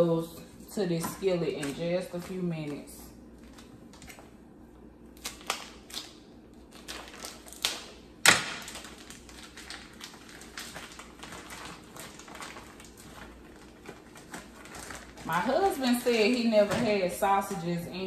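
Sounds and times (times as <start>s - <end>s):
plastic packaging rustling: 1.6s - 4.4s, 5.1s - 17.1s.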